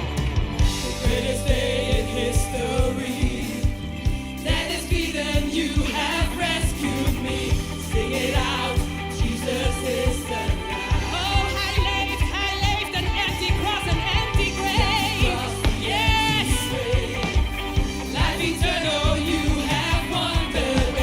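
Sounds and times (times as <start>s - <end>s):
band with drum beat and bass: 0.0s - 21.0s
singers: 0.0s - 21.0s.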